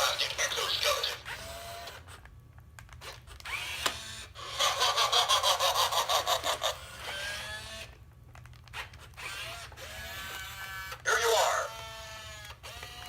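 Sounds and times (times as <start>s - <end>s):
toy robot motors whirring: 0.0s - 2.3s, 2.9s - 13.0s.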